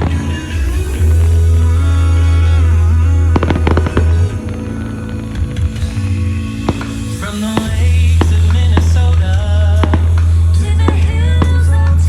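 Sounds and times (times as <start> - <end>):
music with heavy bass: 0.0 - 12.0.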